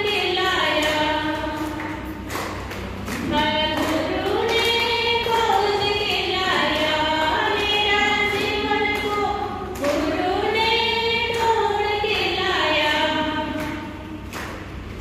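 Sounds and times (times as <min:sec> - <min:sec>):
woman singing unaccompanied: 0:00.0 - 0:02.0, 0:03.2 - 0:14.0.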